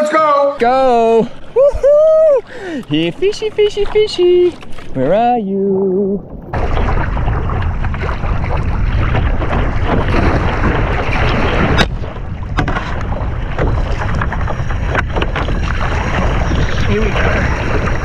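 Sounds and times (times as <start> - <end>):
paddle splashing water: 0.6 - 18.0
wind buffeting microphone: 0.6 - 18.0.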